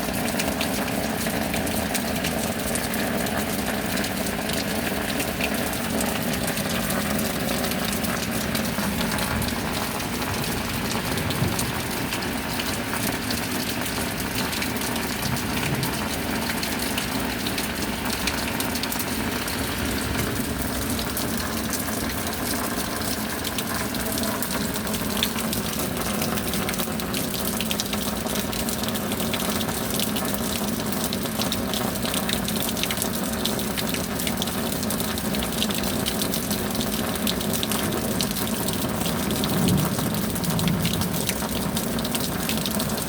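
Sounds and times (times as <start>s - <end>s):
running water rushing: 0.0s - 43.0s
steady rain: 0.0s - 43.0s.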